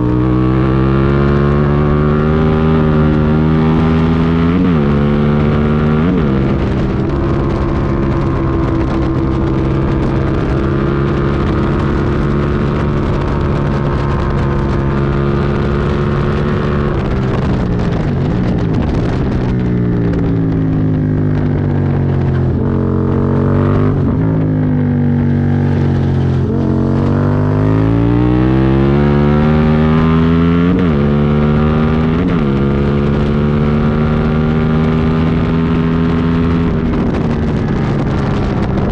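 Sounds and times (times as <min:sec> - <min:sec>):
motorcycle engine at high revs: 0:00.0 - 0:38.9
throttle blips on downshifts: 0:00.0 - 0:38.9.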